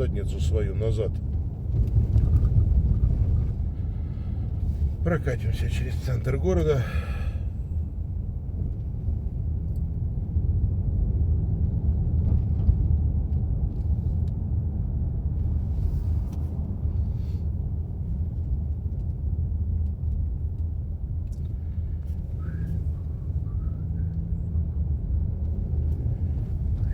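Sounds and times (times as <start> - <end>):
car engine and tyre rumble: 0.0 - 26.9.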